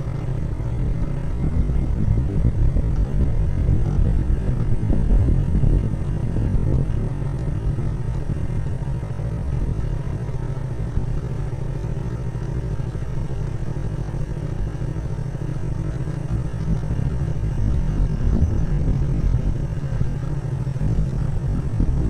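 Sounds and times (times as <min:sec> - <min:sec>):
vehicle rumble: 0:00.0 - 0:22.0
wind buffeting microphone: 0:00.0 - 0:22.0.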